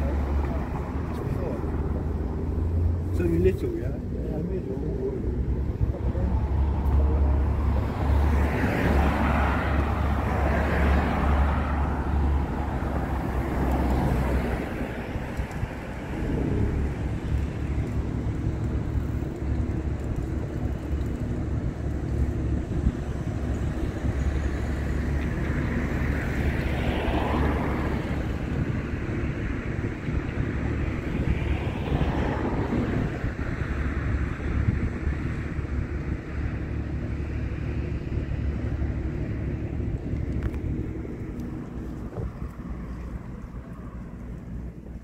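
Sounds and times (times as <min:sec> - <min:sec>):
vehicle engine droning: 0:00.0 - 0:45.0
vehicles passing by: 0:00.0 - 0:45.0.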